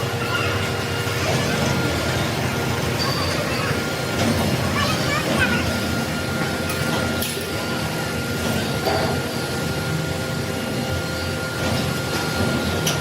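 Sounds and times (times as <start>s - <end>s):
machine running with low rumble: 0.0s - 13.0s.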